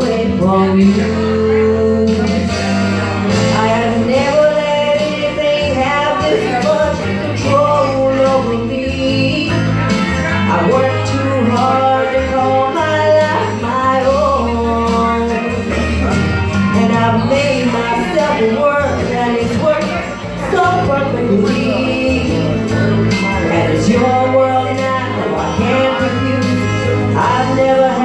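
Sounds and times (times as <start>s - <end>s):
keyboard backing: 0.0s - 28.0s
live band rock ballad: 0.0s - 28.0s.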